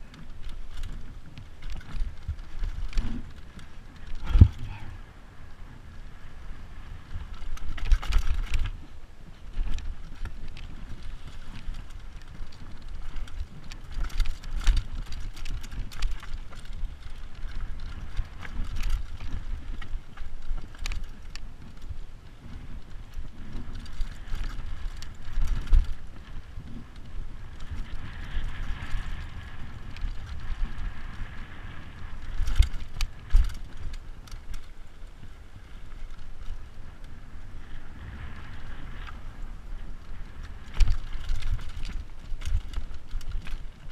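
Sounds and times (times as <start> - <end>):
bike rattling and knocking: 0.0 - 4.9, 7.0 - 37.2, 39.8 - 43.9
rumble of tyres and wind: 0.0 - 43.9.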